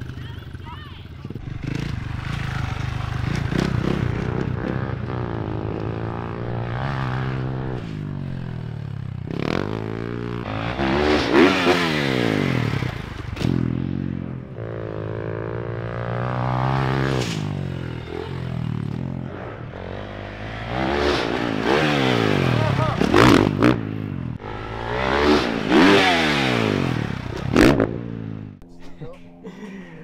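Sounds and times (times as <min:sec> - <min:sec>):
dirt bike engines revving: 0:00.0 - 0:28.7.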